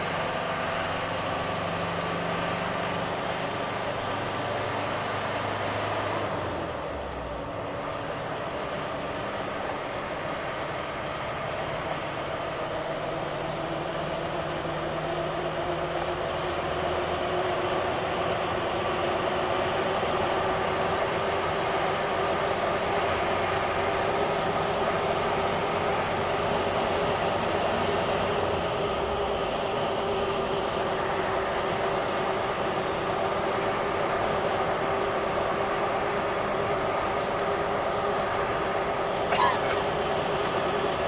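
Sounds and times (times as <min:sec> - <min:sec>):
vehicle engine hum: 0:00.0 - 0:41.0.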